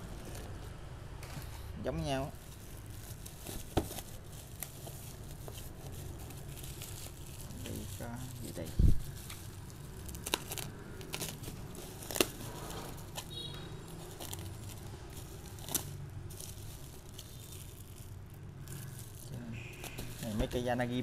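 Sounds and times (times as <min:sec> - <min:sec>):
bubble wrap crinkling: 0:00.0 - 0:21.0.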